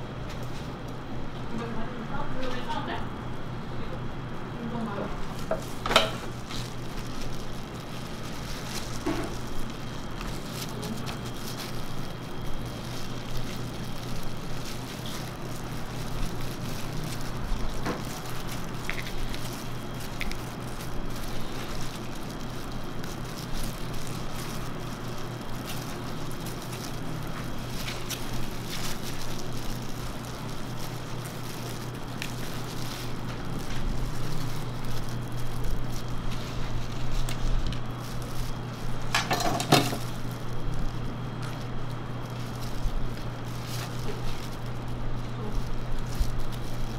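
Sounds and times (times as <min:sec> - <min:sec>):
steady low hum: 0:00.0 - 0:46.9
soft handling noises: 0:04.9 - 0:46.9.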